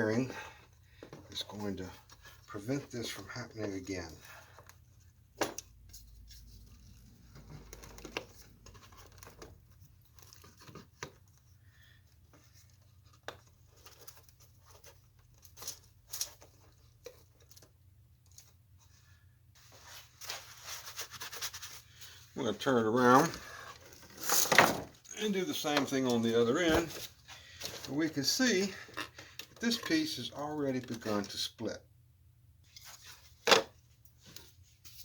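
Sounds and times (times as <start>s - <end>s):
hands working wood and tools: 0.0s - 31.4s.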